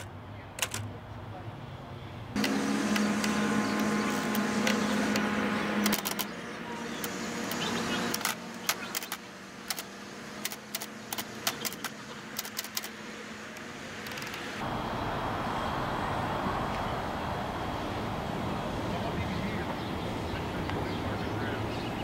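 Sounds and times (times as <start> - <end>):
steady low hum: 0.2 - 22.0.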